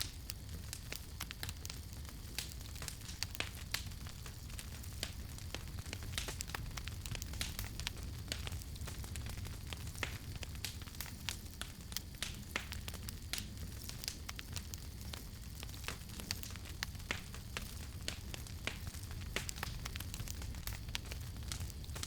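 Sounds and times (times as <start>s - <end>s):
campfire crackles and pops: 0.0s - 22.0s
low rumble of flame: 0.0s - 22.0s.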